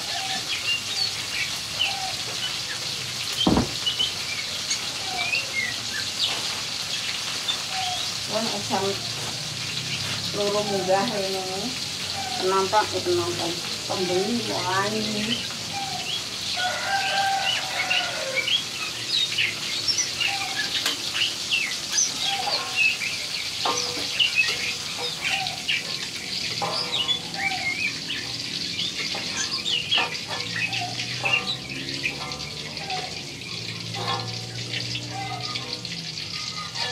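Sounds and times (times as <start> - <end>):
oil sizzling in a wok: 0.0 - 36.9
small birds chirping: 0.0 - 36.9.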